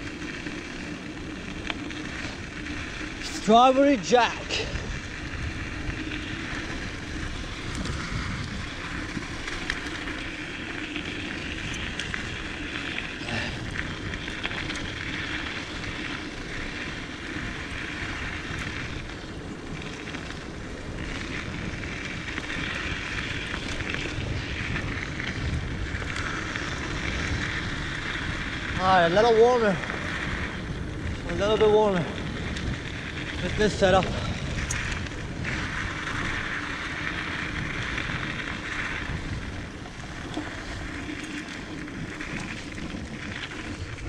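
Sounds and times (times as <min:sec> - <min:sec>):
bike clicks and rattles: 0:00.0 - 0:44.0
tyre rumble on dirt trail: 0:00.0 - 0:44.0
wind rushing over microphone: 0:00.0 - 0:44.0.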